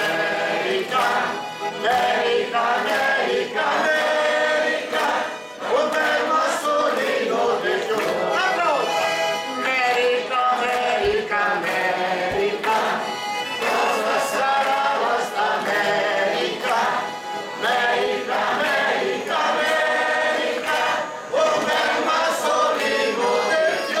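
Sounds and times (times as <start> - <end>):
crowd singing together: 0.0 - 24.0
people clapping along: 0.0 - 24.0.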